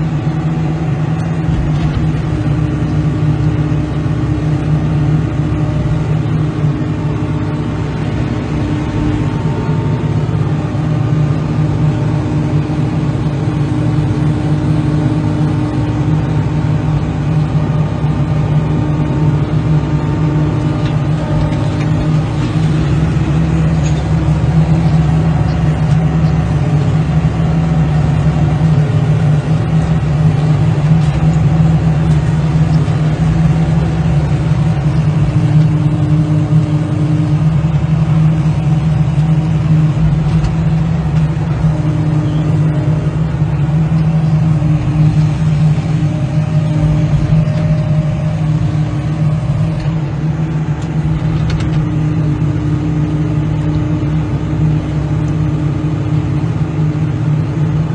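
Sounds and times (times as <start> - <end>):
large diesel engine running: 0.0 - 57.9.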